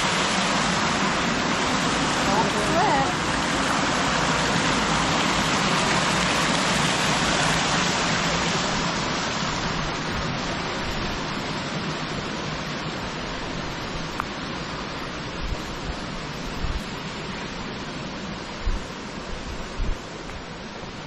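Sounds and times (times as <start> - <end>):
stream cascading over rocks: 0.0 - 21.0.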